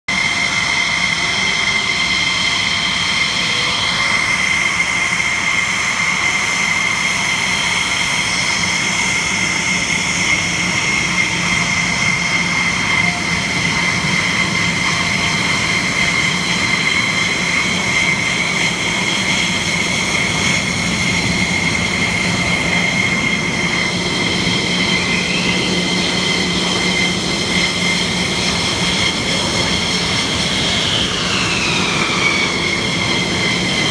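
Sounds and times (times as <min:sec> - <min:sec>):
jet engine turbine whine: 0:00.1 - 0:33.9.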